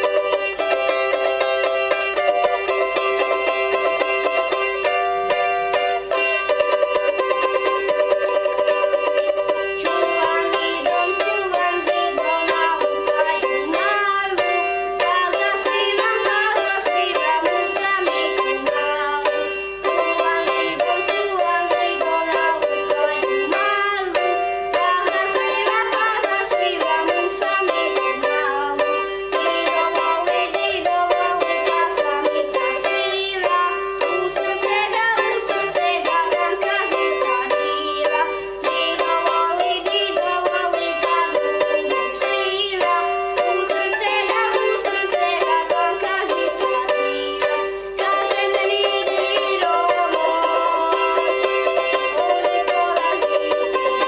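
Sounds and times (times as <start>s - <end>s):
plucked string instrument melody: 0.0s - 54.0s.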